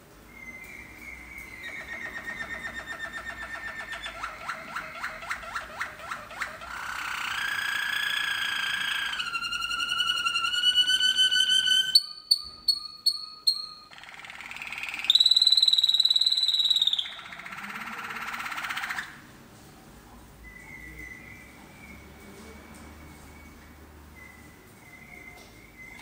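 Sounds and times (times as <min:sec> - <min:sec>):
canary singing: 0:00.3 - 0:19.2, 0:20.4 - 0:26.0.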